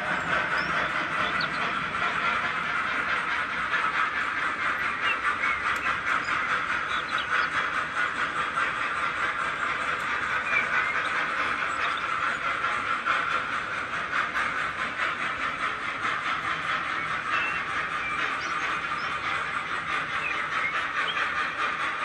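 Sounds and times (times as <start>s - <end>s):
model train rolling on track: 0.0s - 22.0s.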